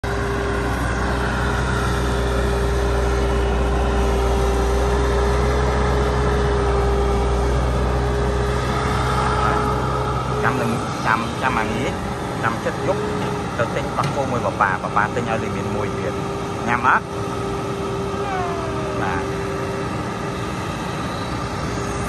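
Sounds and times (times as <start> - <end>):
hydraulic whine: 0.0 - 15.1, 17.5 - 22.0
excavator diesel engine: 0.0 - 22.0.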